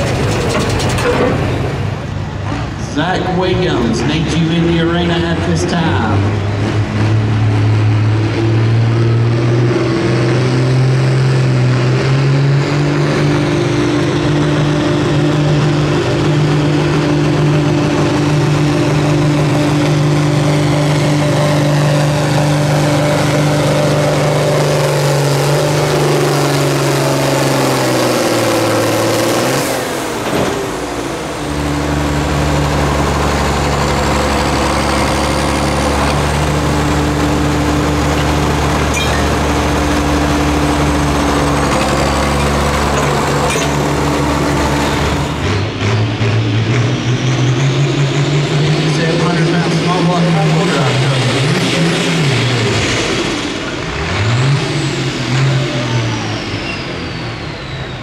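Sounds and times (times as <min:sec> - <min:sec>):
deeper engine running: 0:00.0 - 0:58.0
tractor engine running flat out: 0:00.0 - 0:58.0.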